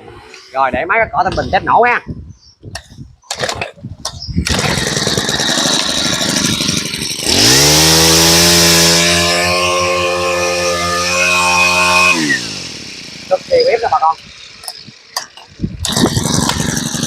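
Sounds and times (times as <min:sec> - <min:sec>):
brush cutter engine running: 0:03.3 - 0:17.0.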